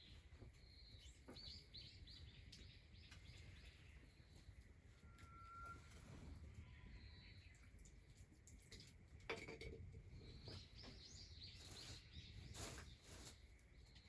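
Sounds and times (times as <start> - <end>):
faint small bird chirps: 0.0 - 8.0, 10.2 - 14.0.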